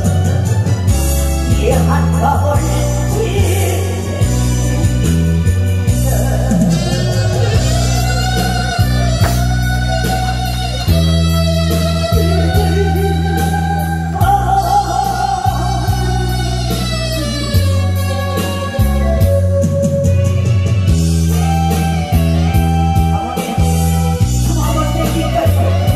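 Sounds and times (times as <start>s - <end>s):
bass line and beat: 0.0s - 25.9s
gliding lead melody with vibrato: 0.0s - 25.9s.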